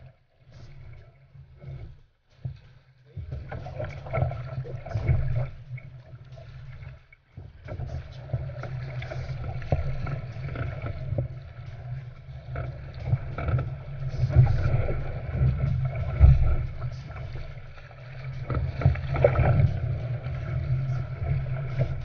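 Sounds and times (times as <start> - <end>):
water rushing and splashing: 2.4 - 22.0.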